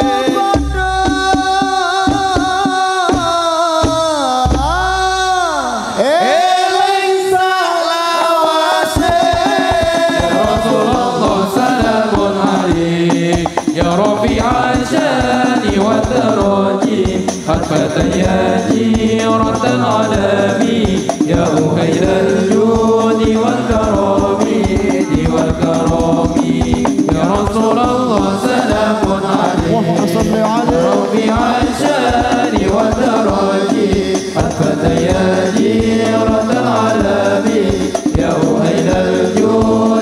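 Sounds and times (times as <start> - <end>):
fast steady percussion: 0.0 - 40.0
men chanting into microphones: 0.0 - 40.0.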